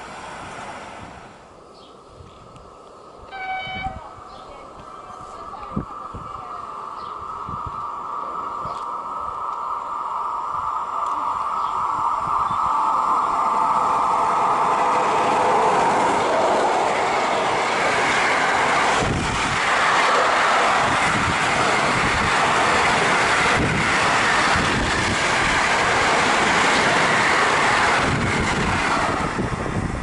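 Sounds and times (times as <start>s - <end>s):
wheels rushing on rail: 0.0s - 30.0s.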